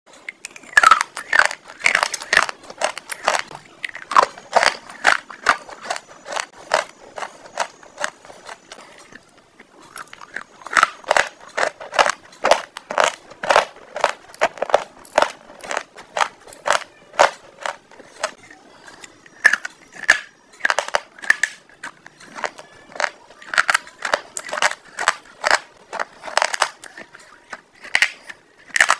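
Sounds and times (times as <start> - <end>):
crisp crunching mouth sounds: 0.2 - 28.9.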